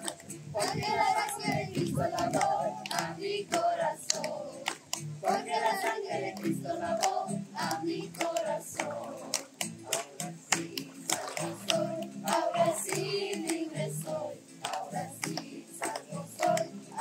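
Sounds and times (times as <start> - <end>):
group singing: 0.0 - 17.0
hands clapping in time: 0.0 - 17.0.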